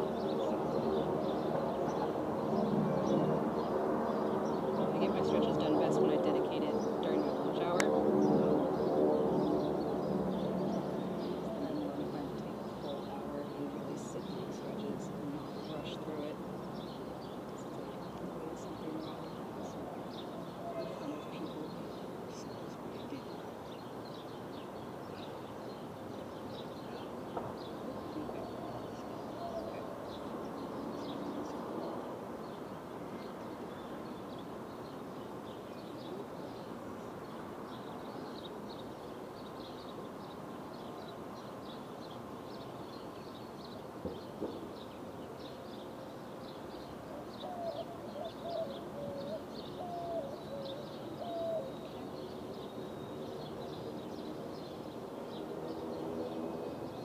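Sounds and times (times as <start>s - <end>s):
low wavering bird calls: 0.0s - 56.0s
small birds chirping: 0.0s - 57.0s.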